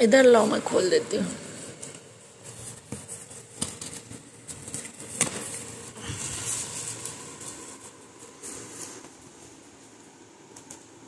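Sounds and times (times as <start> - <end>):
cardboard and plastic rustling: 1.6 - 11.0.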